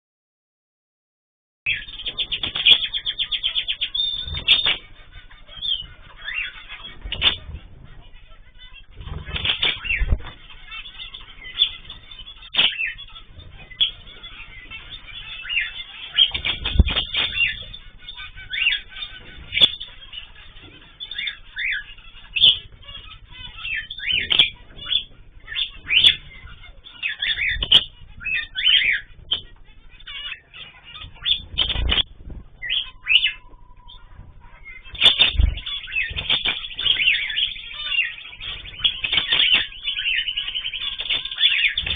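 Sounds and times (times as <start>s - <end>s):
birds chirping: 1.6s - 41.9s
wings flapping: 1.8s - 41.9s.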